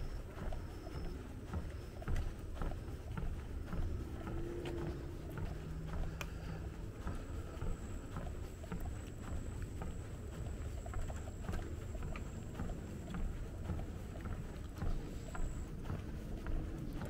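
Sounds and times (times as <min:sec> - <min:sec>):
footsteps on dirt trail: 0:00.0 - 0:17.0.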